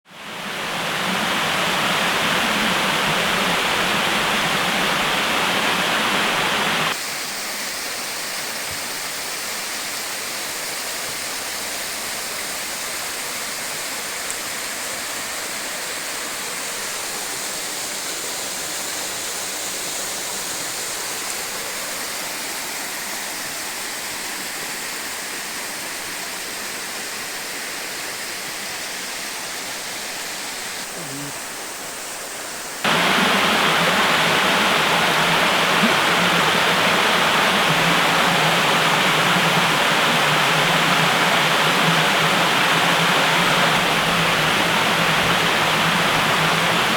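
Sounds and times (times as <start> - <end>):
waterfall rushing: 0.1 - 46.9.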